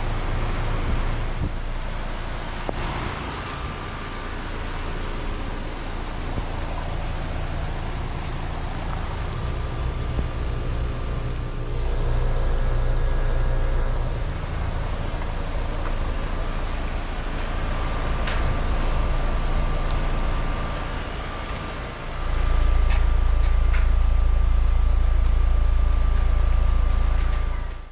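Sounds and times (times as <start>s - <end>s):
heat pump humming: 0.0s - 27.9s
thin whine: 5.4s - 27.9s.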